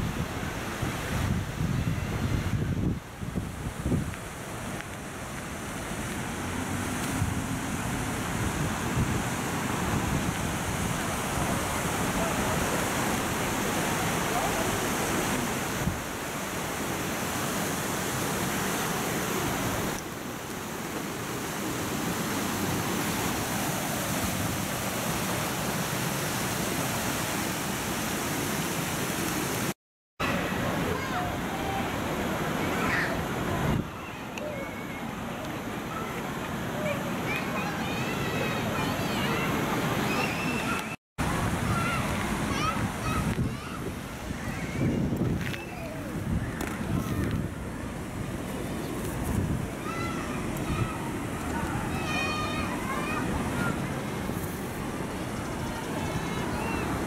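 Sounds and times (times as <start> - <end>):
river water rushing over weirs: 0.0 - 57.0.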